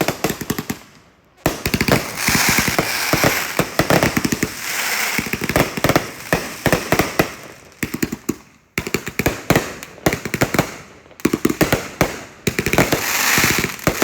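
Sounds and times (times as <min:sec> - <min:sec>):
fireworks bangs and pops: 0:00.0 - 0:14.0
fireworks crackling: 0:00.0 - 0:14.0.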